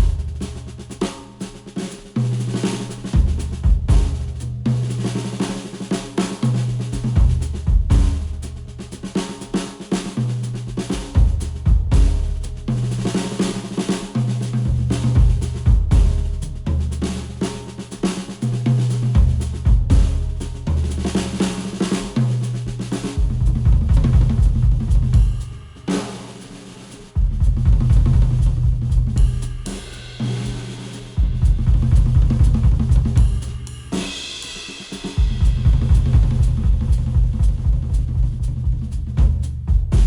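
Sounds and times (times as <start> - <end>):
music with drums and deep bass: 0.0 - 40.0.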